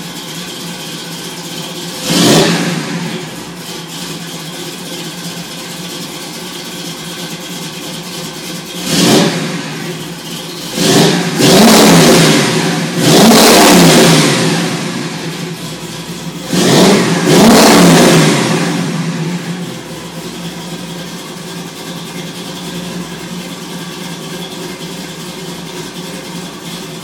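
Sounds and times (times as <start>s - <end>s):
engine idling and revving: 0.0s - 27.0s.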